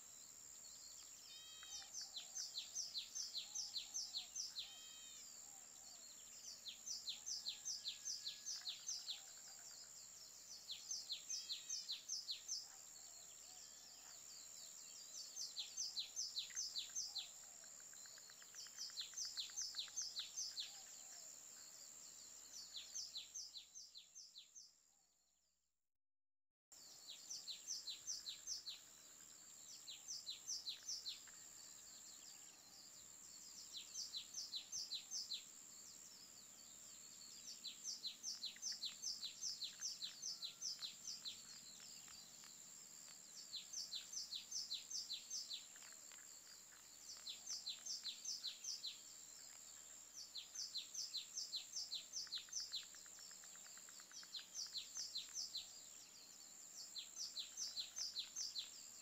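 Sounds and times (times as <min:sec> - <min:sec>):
steady high-pitched hiss: 0:00.0 - 0:24.8, 0:26.8 - 0:59.0.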